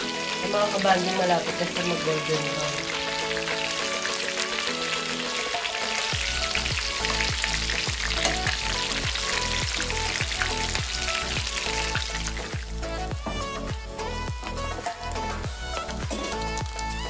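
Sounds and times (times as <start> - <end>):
food sizzling in hot oil: 0.0 - 17.0
background music with drum thumps: 2.9 - 17.0.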